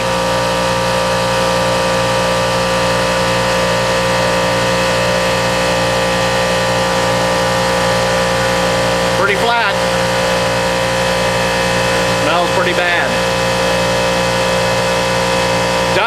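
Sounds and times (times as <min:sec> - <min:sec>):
hydraulic pump motor humming: 0:00.0 - 0:16.0.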